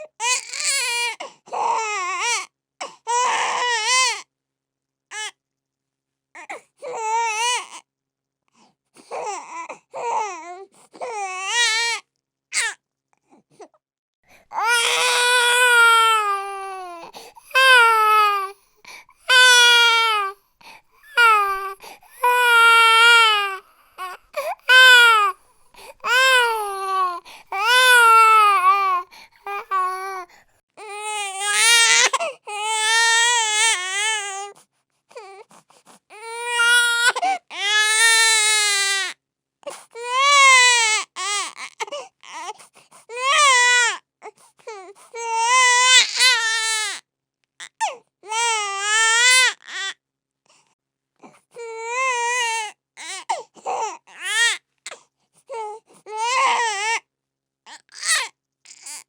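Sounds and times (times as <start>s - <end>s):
infant crying: 0.0s - 4.2s, 6.4s - 7.8s, 9.1s - 12.0s, 12.6s - 12.8s, 14.4s - 35.5s, 36.1s - 47.0s, 47.6s - 49.9s, 51.6s - 54.6s, 55.5s - 57.0s, 57.7s - 59.0s.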